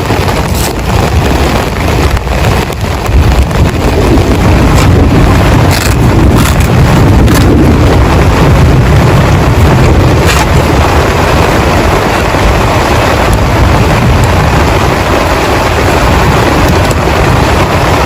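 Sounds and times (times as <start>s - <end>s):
heavy rain on a tent: 0.0s - 18.0s.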